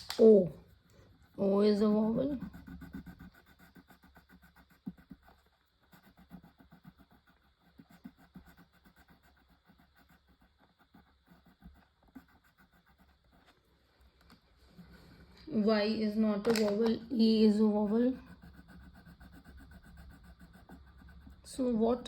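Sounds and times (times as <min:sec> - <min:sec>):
scribbling on paper: 0:00.3 - 0:13.6, 0:17.2 - 0:22.0.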